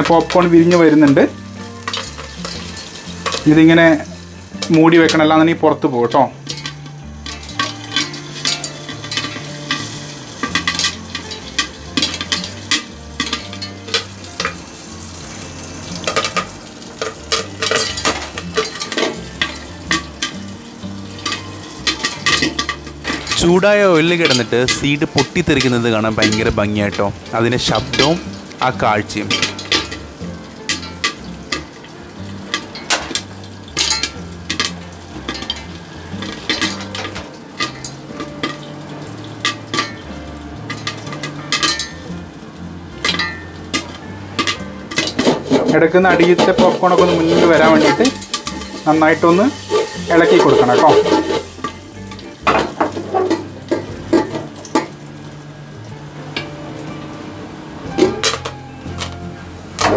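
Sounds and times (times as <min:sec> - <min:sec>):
popcorn popping: 0:00.0 - 0:05.4, 0:06.4 - 0:42.1, 0:43.0 - 0:55.1, 0:57.9 - 0:59.9
oil sizzling: 0:00.0 - 0:59.9.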